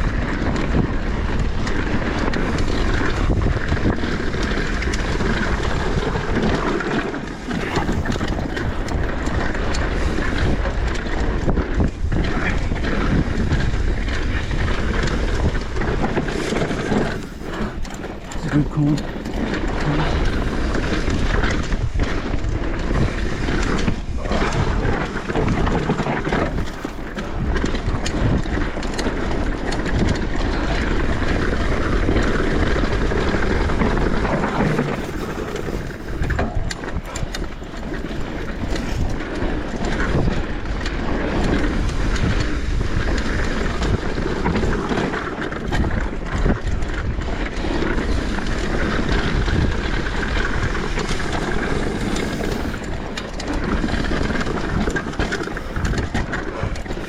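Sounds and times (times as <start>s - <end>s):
bike knocks and rattles: 0.0s - 57.0s
bike tyre noise on dirt: 0.0s - 57.0s
wind rush on microphone: 0.0s - 57.0s.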